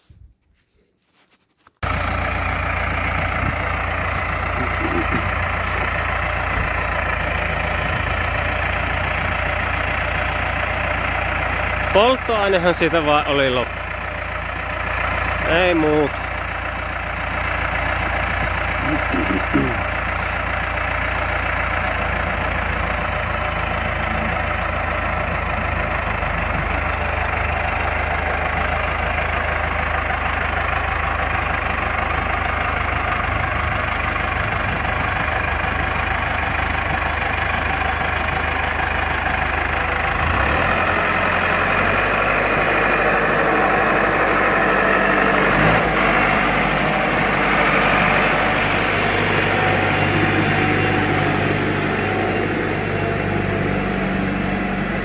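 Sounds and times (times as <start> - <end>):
tractor diesel engine idling: 1.8 - 55.0.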